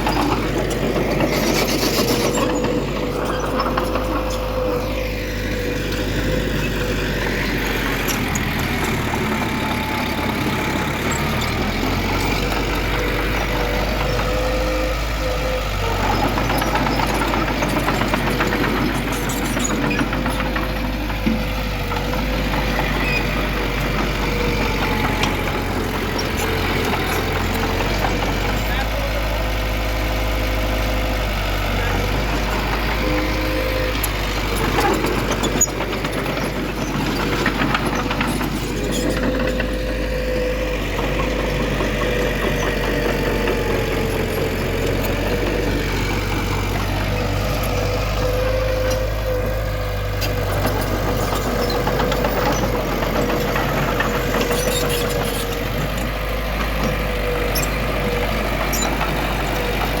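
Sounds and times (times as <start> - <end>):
engine whine: 0.0 - 60.0
heavy diesel engine rumbling: 0.0 - 60.0.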